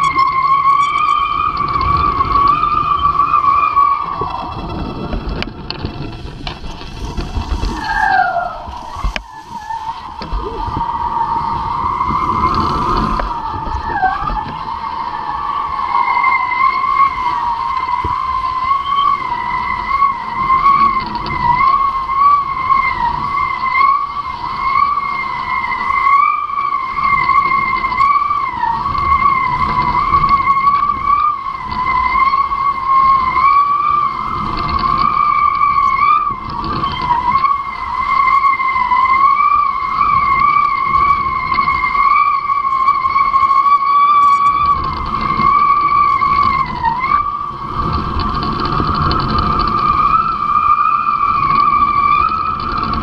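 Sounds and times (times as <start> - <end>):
hydrofoil high whistling whine: 0.0 - 53.0
wind noise on microphone: 0.0 - 53.0.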